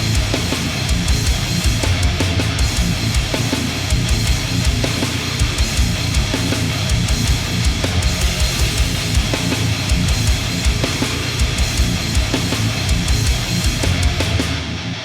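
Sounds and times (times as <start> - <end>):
distorted electric guitars: 0.0 - 15.0.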